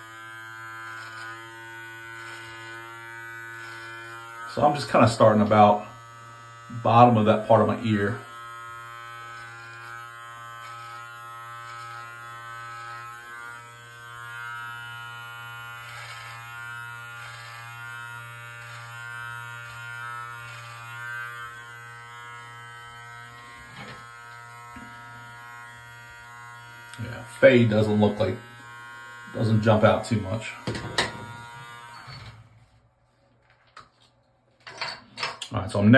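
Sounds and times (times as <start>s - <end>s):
beard trimmer buzzing: 0.0s - 32.7s.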